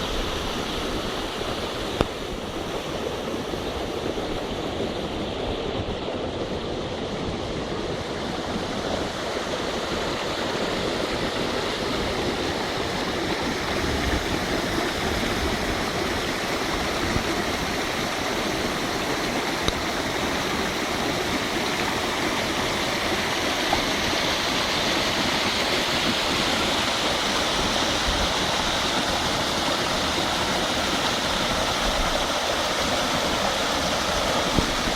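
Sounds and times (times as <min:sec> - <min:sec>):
water rushing from outfall: 0:00.0 - 0:34.9.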